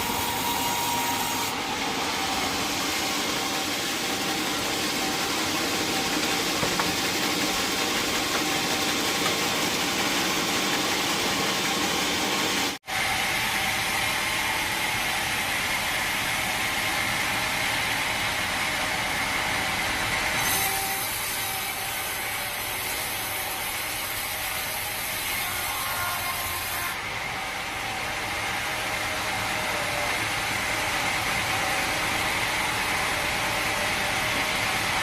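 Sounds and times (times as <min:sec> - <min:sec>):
sawmill machinery din: 0:00.0 - 0:35.0.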